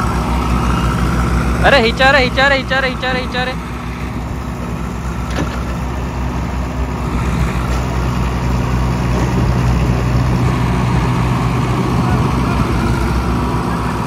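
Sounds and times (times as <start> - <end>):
heavy diesel engines under load: 0.0 - 14.0.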